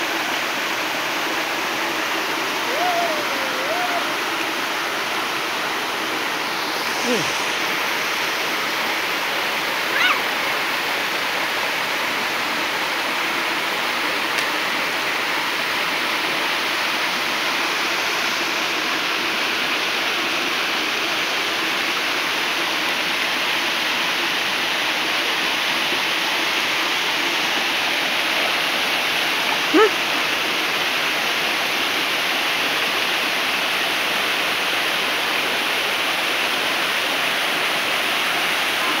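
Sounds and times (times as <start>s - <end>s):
waterfall rushing into stream: 0.0s - 39.0s.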